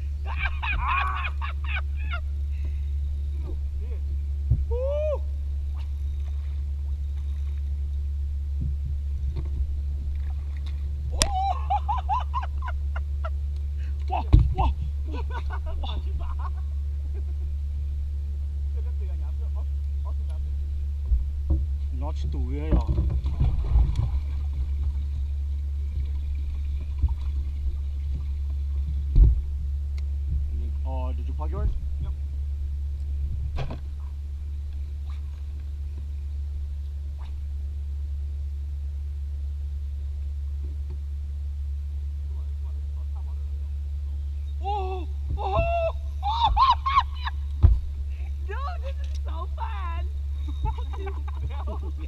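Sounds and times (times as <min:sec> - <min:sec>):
boat motor rumbling: 0:00.0 - 0:52.0
faint water sounds: 0:00.0 - 0:52.0.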